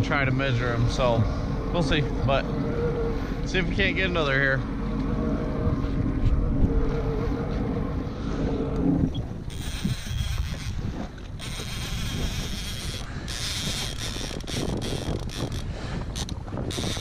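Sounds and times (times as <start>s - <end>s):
personal watercraft engine running: 0.0s - 17.0s
wind buffeting microphone: 0.0s - 17.0s.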